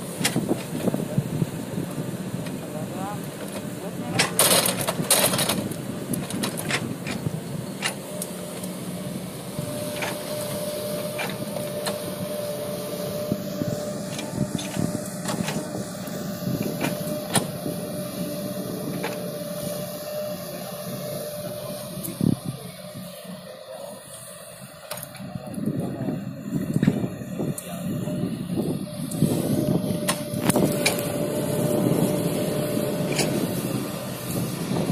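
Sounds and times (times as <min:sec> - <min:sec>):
excavator diesel engine running: 0:00.0 - 0:34.9
steady whine: 0:00.0 - 0:34.9.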